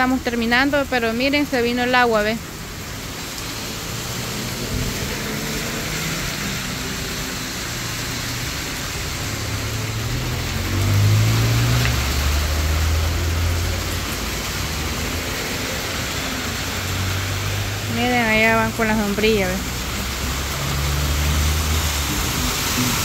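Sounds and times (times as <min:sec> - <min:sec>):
heavy rain on road: 0:00.0 - 0:23.0
car driving past on wet pavement: 0:02.4 - 0:23.0.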